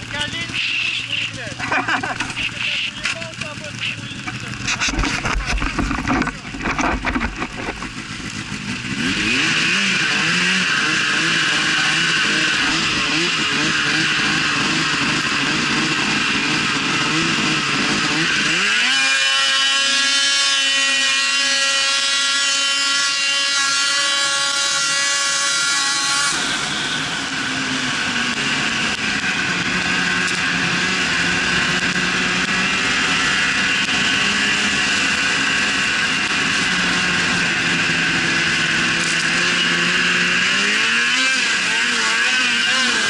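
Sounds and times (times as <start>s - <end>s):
snowmobile engine revving: 0.0s - 43.0s.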